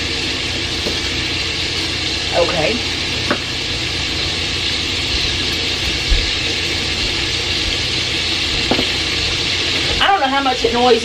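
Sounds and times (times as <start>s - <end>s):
sausage sizzling in skillet: 0.0s - 11.0s.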